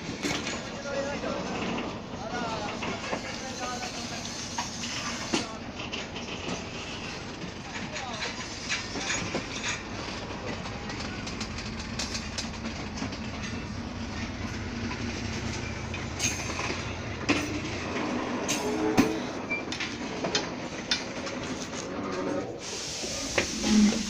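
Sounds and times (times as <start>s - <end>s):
wheels clacking over rails: 0.0s - 22.6s
train rumbling on track: 0.0s - 24.0s.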